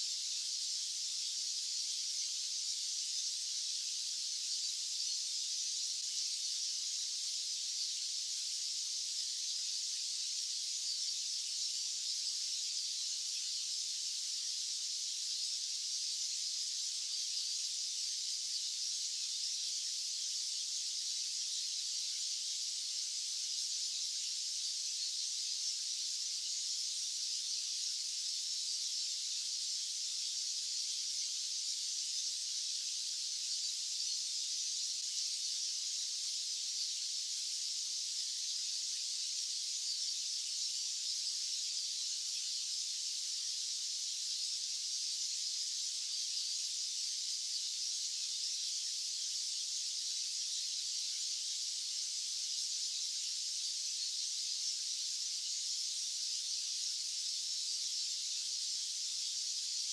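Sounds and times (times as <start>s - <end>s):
high-pitched white noise hiss: 0.0s - 59.9s.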